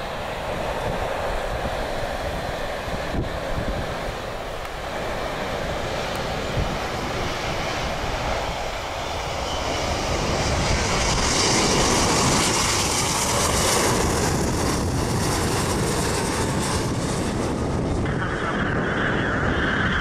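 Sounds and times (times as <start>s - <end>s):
jet flying low overhead: 0.0s - 20.0s.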